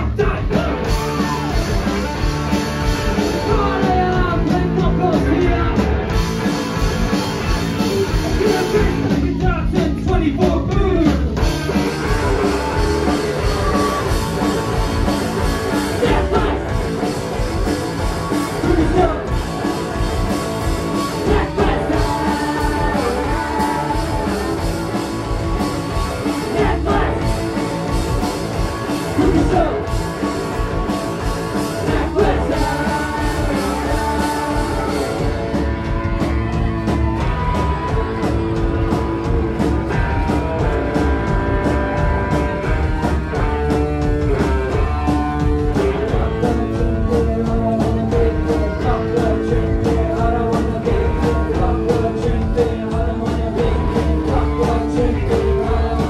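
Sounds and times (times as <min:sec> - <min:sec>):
drum kit playing: 0:00.0 - 0:56.0
electric guitars: 0:00.0 - 0:56.0.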